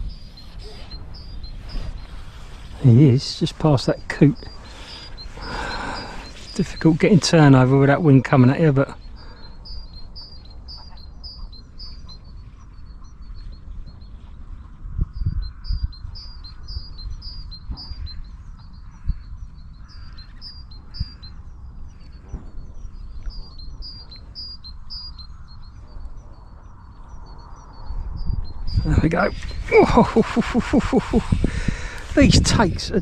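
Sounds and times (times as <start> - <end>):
small bird chirping: 0.0 - 33.0
wind rumbling on microphone: 0.0 - 33.0.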